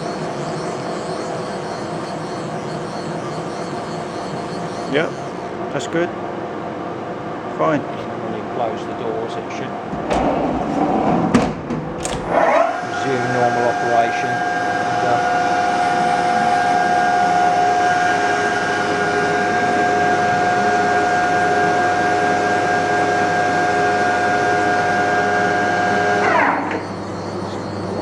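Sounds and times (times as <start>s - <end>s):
lathe spindle high whine: 0.0s - 7.5s, 9.6s - 28.0s.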